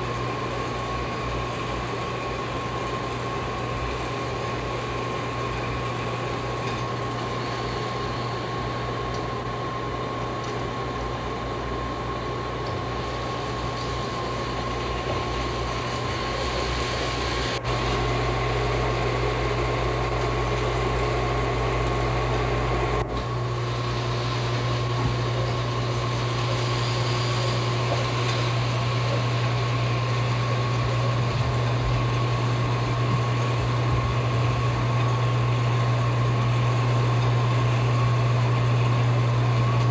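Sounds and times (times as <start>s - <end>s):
high whine: 0.0s - 39.9s
mechanical hum: 0.0s - 39.9s.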